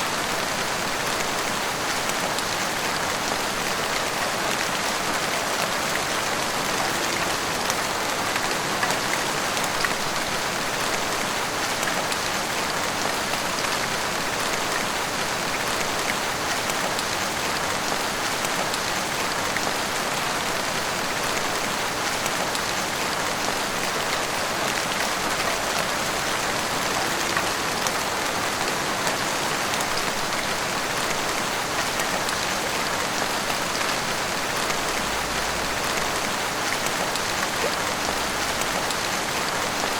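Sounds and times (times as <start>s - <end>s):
heavy rain on street and rooftops: 0.0s - 39.9s.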